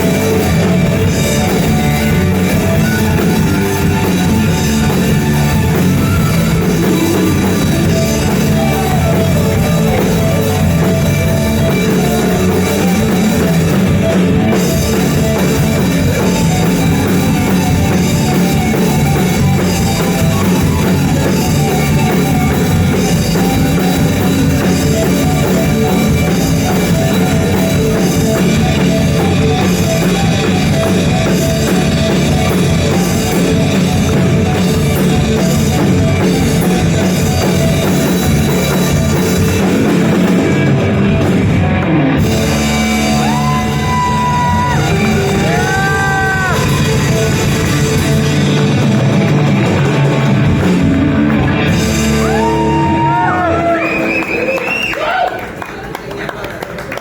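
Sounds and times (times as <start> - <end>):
bending high held notes: 0.0 - 49.0
rock band playing: 0.0 - 55.5.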